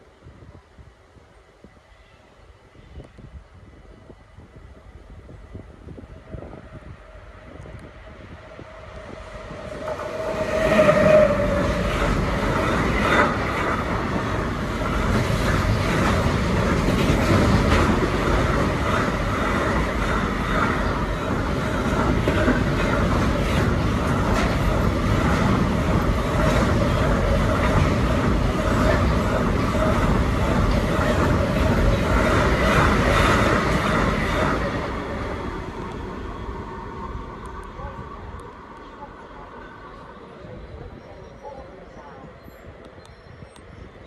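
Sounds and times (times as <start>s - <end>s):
train wheels rumbling on rails: 2.9s - 44.0s.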